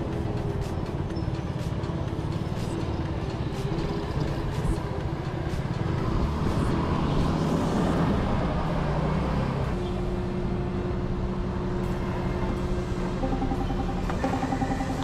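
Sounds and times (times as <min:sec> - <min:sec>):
road and traffic rumble: 0:00.0 - 0:15.0.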